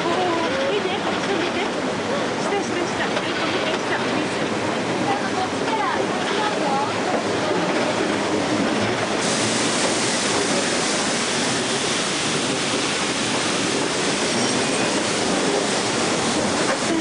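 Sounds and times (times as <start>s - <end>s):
train wheels running on track: 0.0s - 17.0s.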